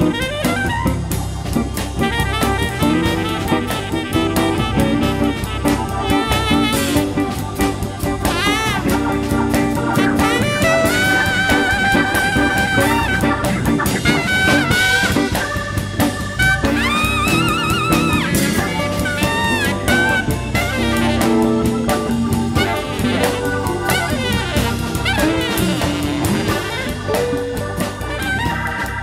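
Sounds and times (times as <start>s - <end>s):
brass playing jazz melody: 0.0s - 29.0s
drum kit: 0.0s - 29.0s.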